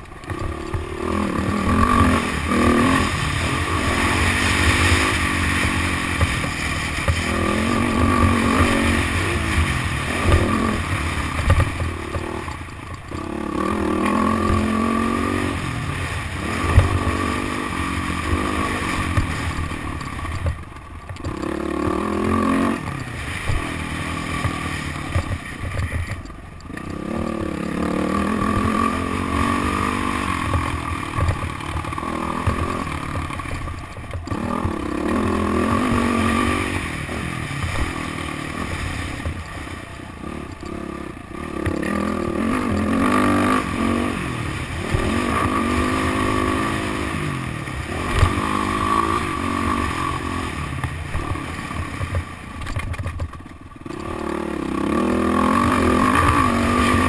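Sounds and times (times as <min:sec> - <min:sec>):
motorcycle engine revving: 0:00.0 - 0:57.0
rattling clatter from bike: 0:00.0 - 0:57.0.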